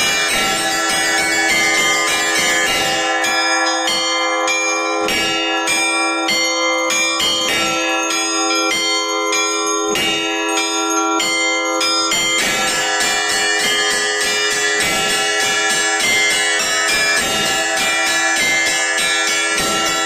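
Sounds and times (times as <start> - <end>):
small church bells ringing rapidly: 0.0 - 20.0.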